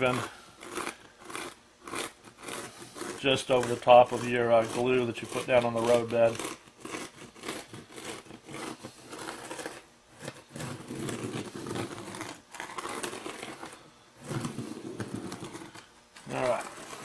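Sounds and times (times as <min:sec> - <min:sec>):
fingertip rasping over gravel: 0:00.0 - 0:17.0.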